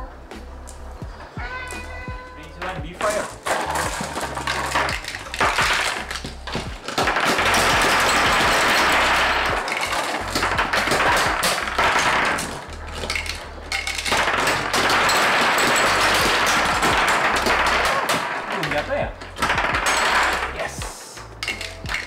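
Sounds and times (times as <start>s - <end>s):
background music with bass line: 0.0s - 18.1s, 18.8s - 22.0s
marbles tapping and scattering: 1.7s - 22.0s.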